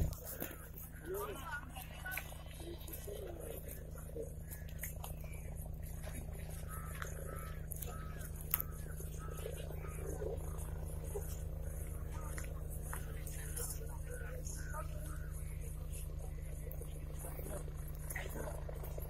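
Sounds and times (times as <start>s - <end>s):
distant helicopter rotor chop: 0.0s - 19.0s.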